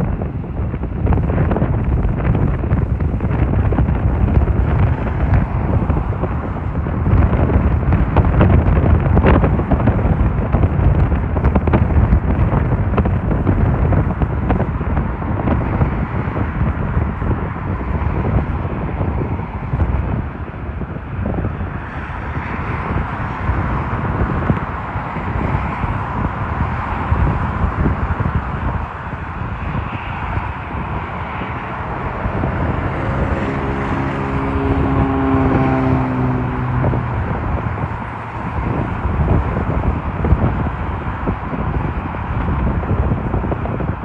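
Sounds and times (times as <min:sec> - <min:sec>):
jet airliner roaring: 0:00.0 - 0:44.0
wind buffeting microphone: 0:00.0 - 0:44.0.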